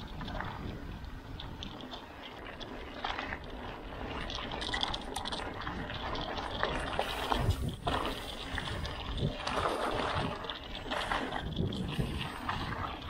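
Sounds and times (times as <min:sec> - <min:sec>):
bike rattles and clicks: 0:00.0 - 0:13.0
bike tyre rolling on trail: 0:00.0 - 0:13.0.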